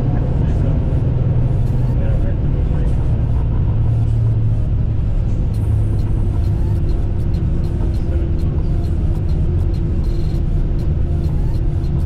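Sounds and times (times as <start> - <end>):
airliner rolling on runway: 0.0 - 12.0.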